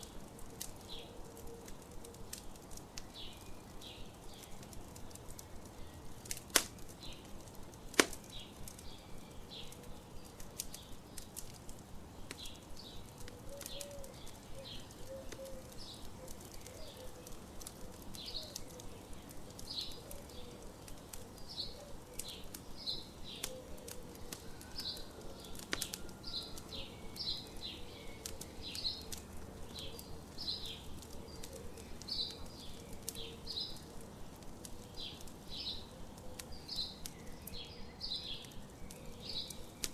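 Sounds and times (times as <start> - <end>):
birds chirping: 0.0 - 39.9
campfire crackling: 0.0 - 39.9
fire popping: 0.0 - 39.9.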